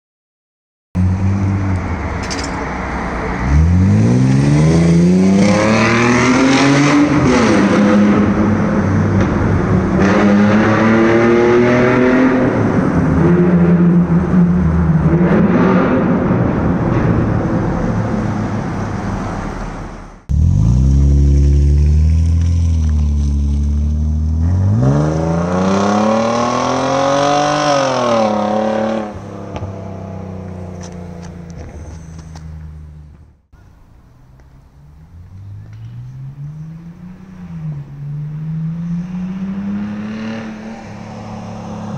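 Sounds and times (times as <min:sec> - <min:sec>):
car engine revving: 0:01.0 - 0:33.2, 0:34.9 - 0:41.9.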